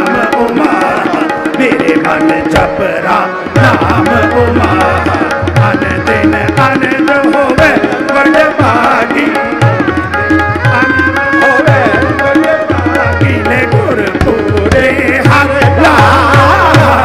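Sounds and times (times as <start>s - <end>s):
harmonium melody: 0.0s - 17.0s
tabla rhythm: 0.0s - 17.0s.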